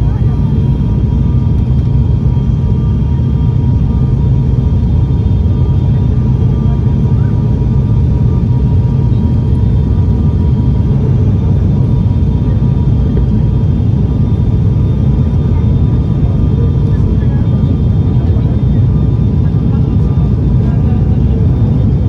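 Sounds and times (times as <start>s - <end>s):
airliner engine drone in cabin: 0.0s - 22.0s.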